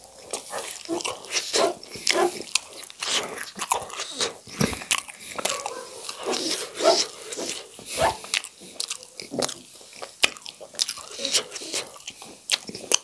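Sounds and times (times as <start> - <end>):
wet chewing noises: 0.0 - 13.0.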